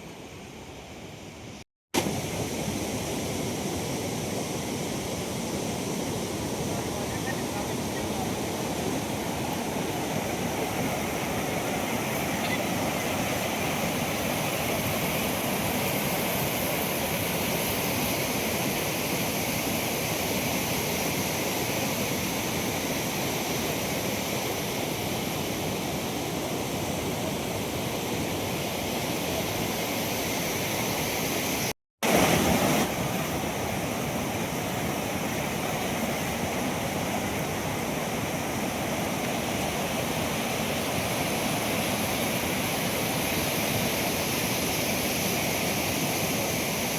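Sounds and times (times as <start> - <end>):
river rushing: 0.0 - 46.9.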